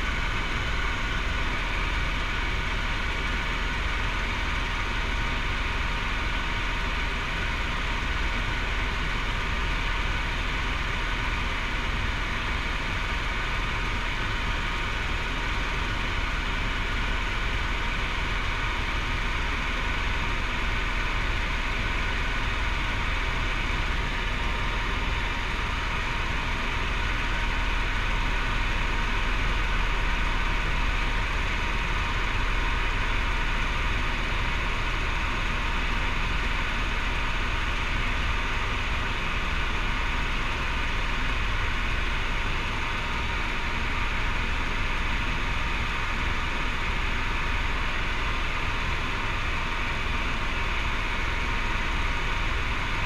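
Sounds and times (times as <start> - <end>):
helicopter engine and rotor drone: 0.0 - 53.0.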